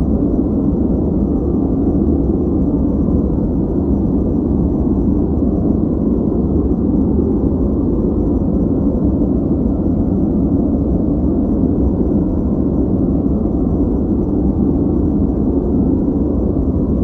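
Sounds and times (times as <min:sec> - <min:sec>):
deep muffled white noise: 0:00.0 - 0:17.0.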